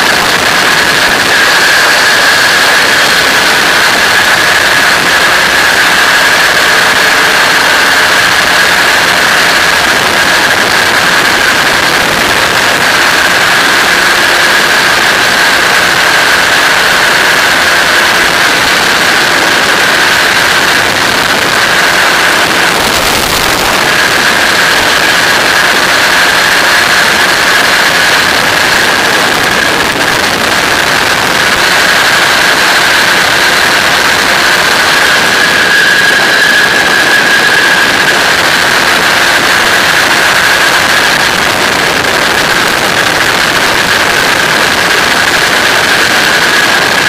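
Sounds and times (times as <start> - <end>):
aircraft engine and propeller: 0.0 - 47.0
loud wind rush: 0.0 - 47.0
steady high whine: 0.0 - 47.0.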